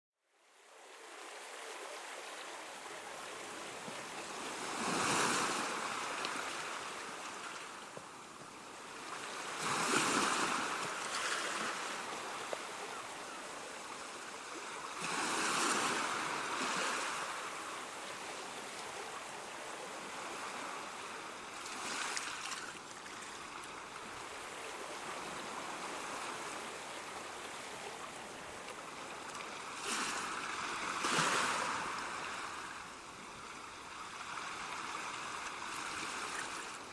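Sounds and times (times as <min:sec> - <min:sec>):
surf washing: 0:00.6 - 0:36.9
ocean waves breaking: 0:00.8 - 0:36.9.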